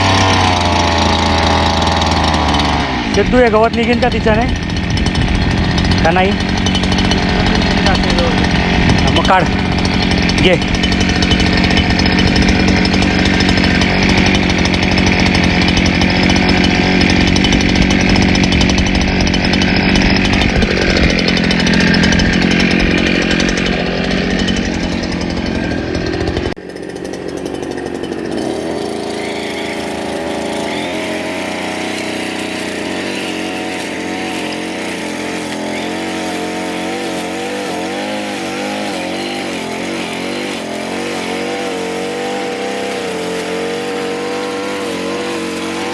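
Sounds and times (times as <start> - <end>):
brush cutter engine cutting grass: 0.0 - 45.9.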